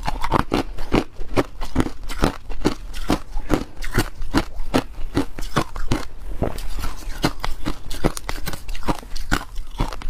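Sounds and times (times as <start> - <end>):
ice being chewed: 0.0 - 10.0.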